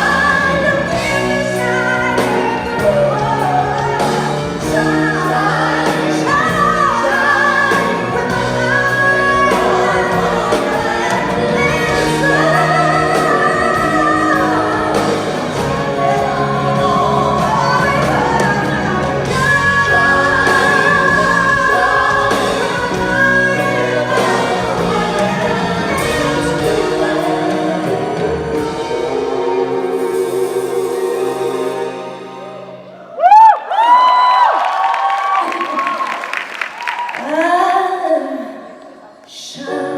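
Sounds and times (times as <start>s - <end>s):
band accompaniment: 0.0s - 34.2s.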